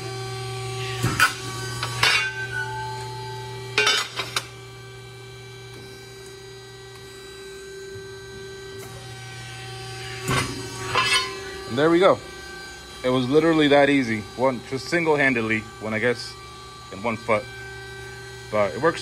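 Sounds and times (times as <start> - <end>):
hydraulic press humming: 0.0 - 19.0.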